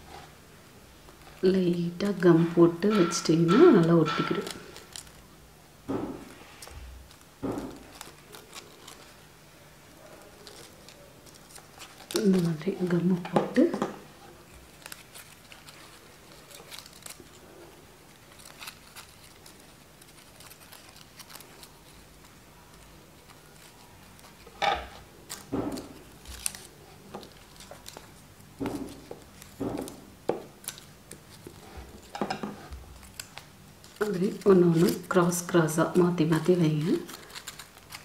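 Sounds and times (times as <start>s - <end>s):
paper petals rustling: 1.0s - 5.3s, 5.9s - 38.0s.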